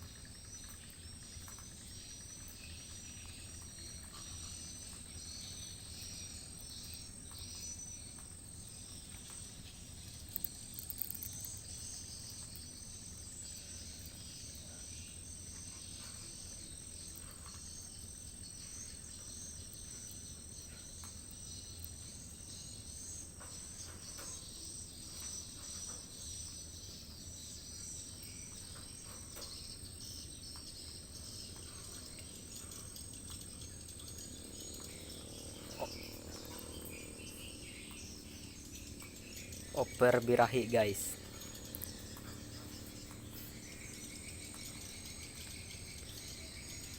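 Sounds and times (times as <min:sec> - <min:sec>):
chittering insect chirps: 0:00.0 - 0:46.9
high-pitched insect drone: 0:00.0 - 0:46.9.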